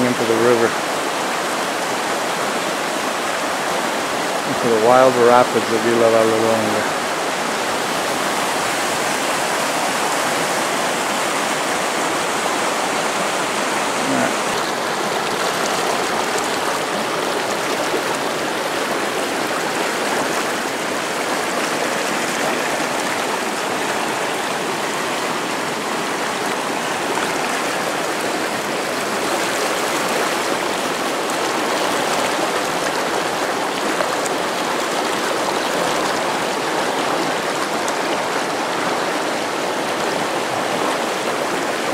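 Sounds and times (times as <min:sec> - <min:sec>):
river rapids rushing over rocks: 0:00.0 - 0:41.9.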